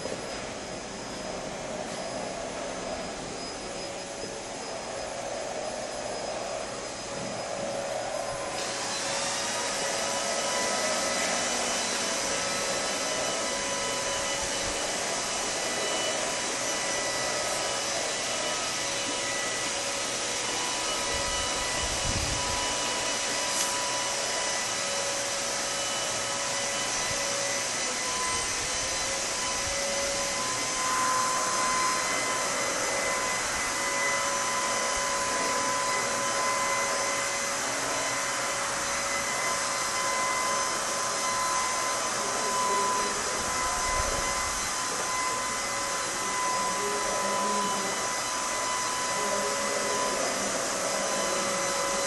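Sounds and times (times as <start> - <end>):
electric fan running: 0.0 - 52.0.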